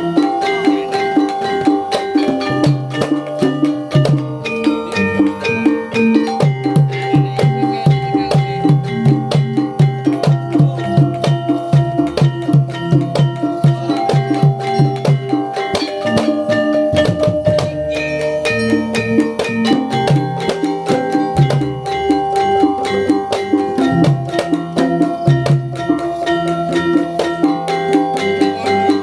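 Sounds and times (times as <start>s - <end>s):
instrumental music with percussion: 0.0s - 29.0s.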